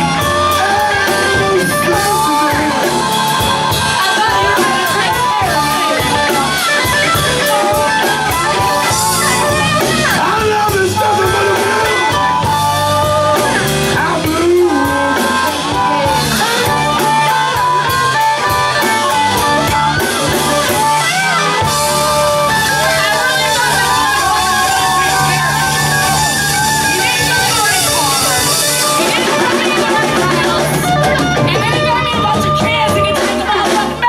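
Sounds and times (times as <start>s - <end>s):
blues band playing: 0.0s - 34.0s
lead guitar with bent notes: 0.0s - 34.0s.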